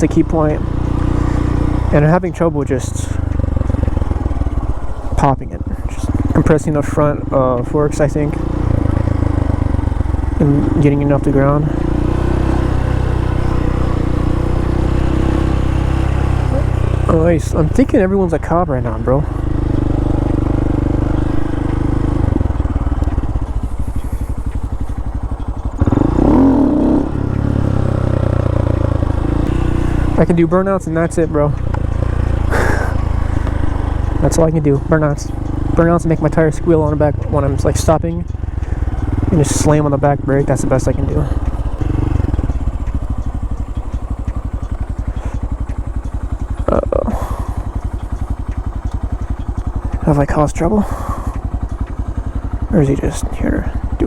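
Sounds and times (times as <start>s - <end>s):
motorcycle engine running and idling: 0.0s - 54.0s.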